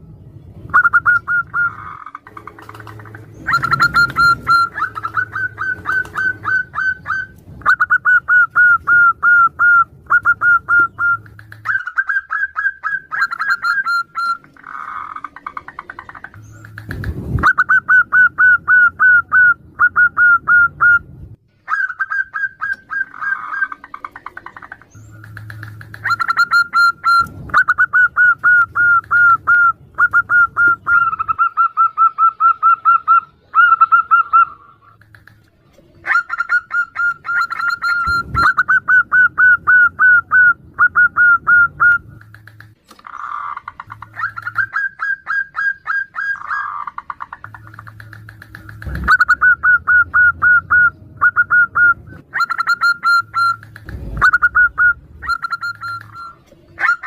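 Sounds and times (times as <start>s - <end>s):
doves cooing: 0.6s - 57.0s.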